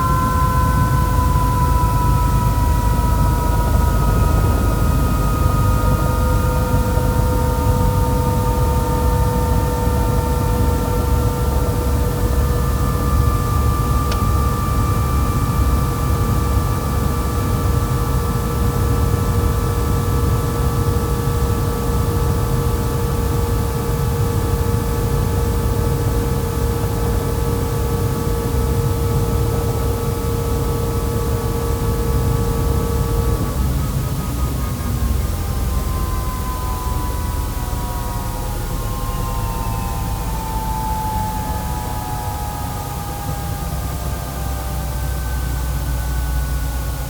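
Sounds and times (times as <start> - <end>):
helicopter rotor rumble: 0.0 - 47.0
high turbine whine: 0.0 - 47.0.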